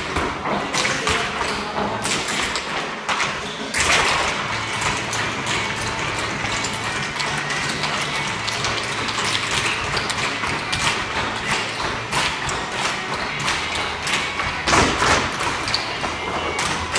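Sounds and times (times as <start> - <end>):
song playing in background: 0.0 - 16.9
tap shoes on wooden floor: 0.0 - 16.9.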